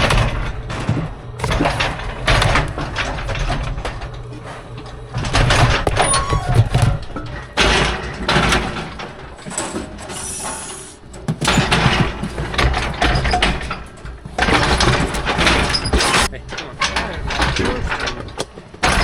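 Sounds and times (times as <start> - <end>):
steel gates rattling and clanging: 0.0 - 19.0.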